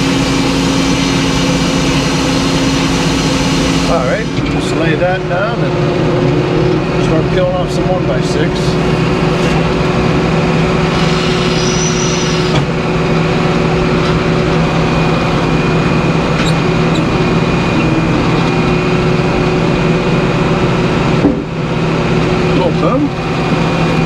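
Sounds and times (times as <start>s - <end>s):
sawmill machinery humming: 0.0s - 24.0s.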